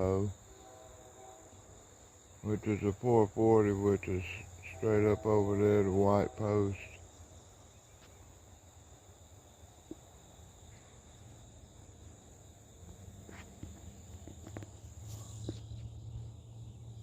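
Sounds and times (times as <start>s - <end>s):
crickets droning: 0.0s - 17.0s.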